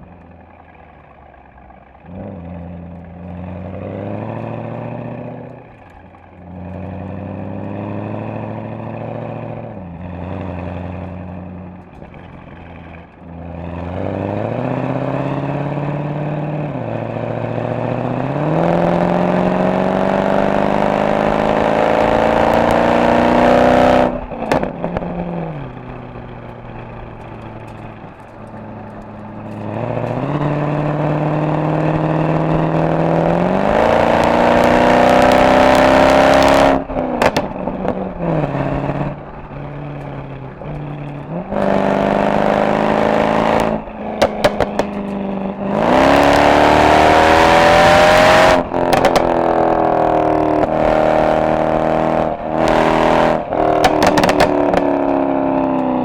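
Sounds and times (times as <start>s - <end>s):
car engine accelerating: 0.0s - 56.0s
exhaust crackles: 0.0s - 56.0s.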